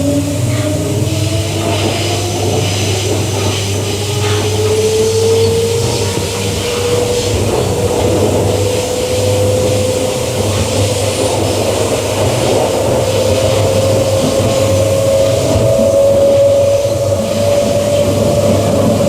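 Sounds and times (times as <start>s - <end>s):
electric train motor whine: 0.0s - 19.0s
train running noise and hum: 0.0s - 19.0s.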